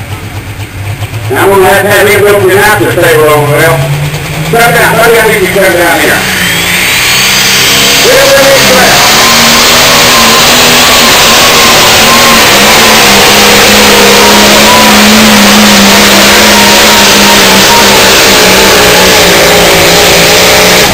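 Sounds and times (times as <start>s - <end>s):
tractor engine running flat out: 0.0s - 20.9s.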